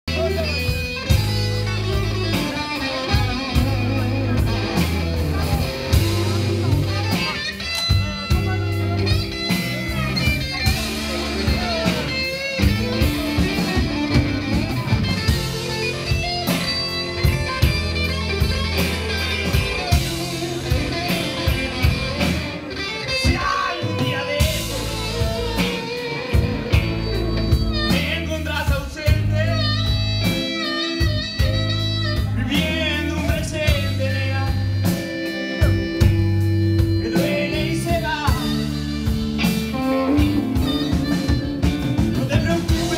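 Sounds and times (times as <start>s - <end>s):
harmonica bent notes: 0.1s - 28.5s, 33.8s - 42.9s
blues-rock band playing: 0.1s - 42.9s.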